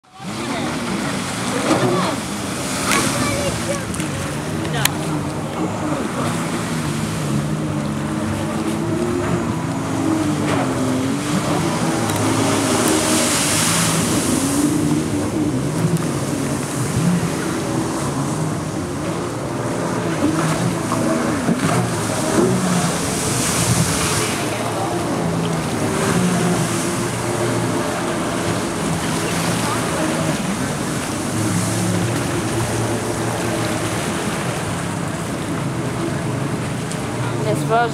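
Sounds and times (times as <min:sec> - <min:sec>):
jet ski engine revving: 0:00.0 - 0:37.9.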